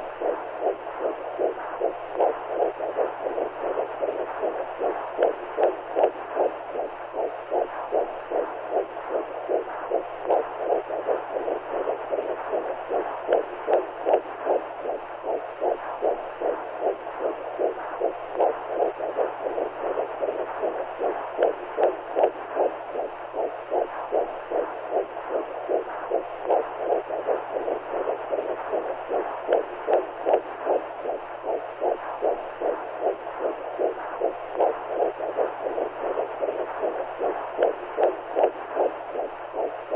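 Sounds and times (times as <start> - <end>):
rhythmic whooshing pulse: 0.0 - 39.9
steady low hum: 0.0 - 39.9.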